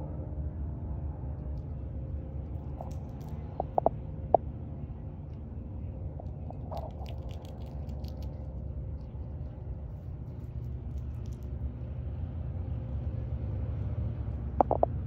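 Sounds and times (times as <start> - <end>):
low rumble of street: 0.0 - 15.0.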